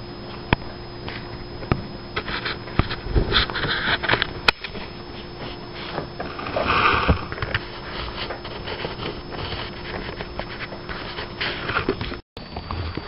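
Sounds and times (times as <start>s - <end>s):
wind and rain rushing hiss: 0.0s - 11.8s.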